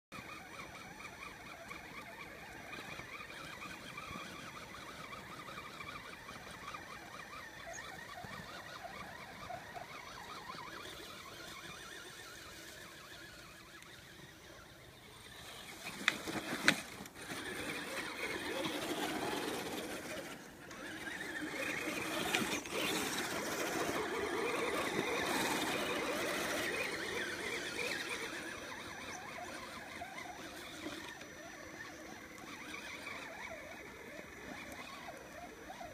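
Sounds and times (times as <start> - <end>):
electric motor and drivetrain whining: 0.2 - 35.9.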